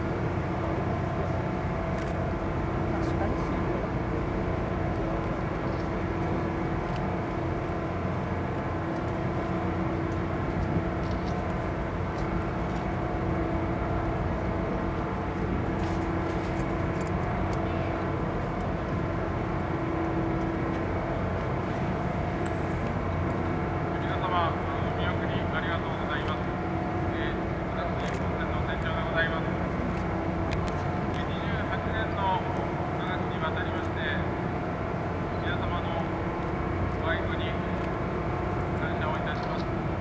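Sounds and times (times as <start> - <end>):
ship engines droning: 0.0 - 40.0.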